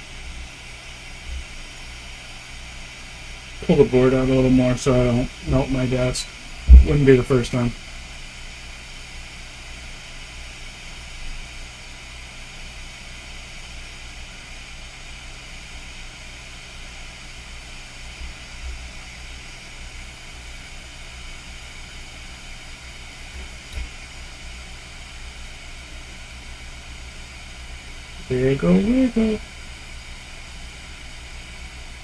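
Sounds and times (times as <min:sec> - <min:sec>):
hot air station hissing: 0:00.0 - 0:32.0.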